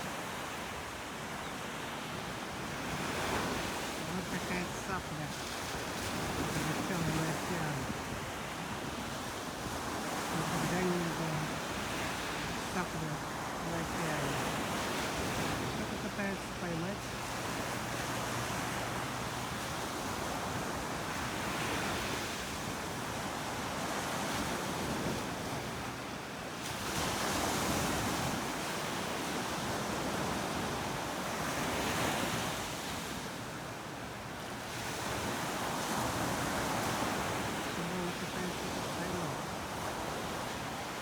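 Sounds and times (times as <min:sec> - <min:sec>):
ocean surf breaking: 0:00.0 - 0:41.0.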